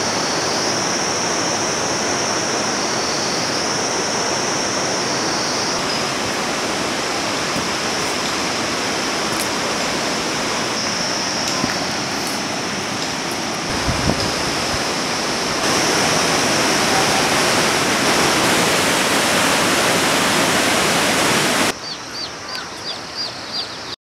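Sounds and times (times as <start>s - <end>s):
river rushing over rocks: 0.0s - 21.7s.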